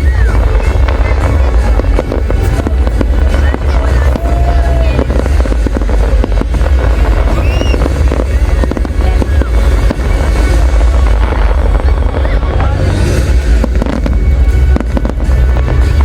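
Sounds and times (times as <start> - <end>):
fireworks bangs and crackles: 0.0 - 16.0
fireworks whistles: 0.0 - 16.0
low fireworks booms: 0.0 - 16.0.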